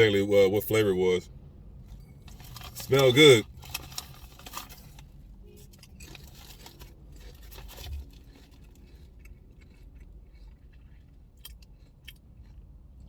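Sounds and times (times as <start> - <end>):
crunching potato chips: 2.2 - 13.0.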